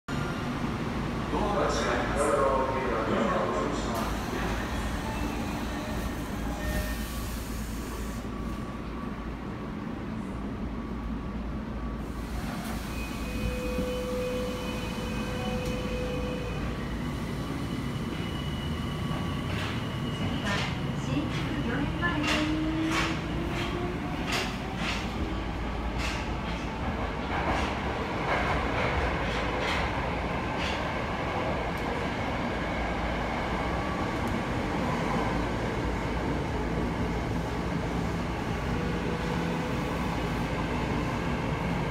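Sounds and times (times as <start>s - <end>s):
subway train rumble: 0.1s - 41.9s.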